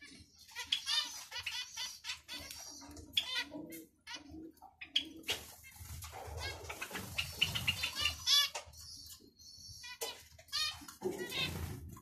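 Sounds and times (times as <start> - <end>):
finches chirping: 0.0 - 11.8.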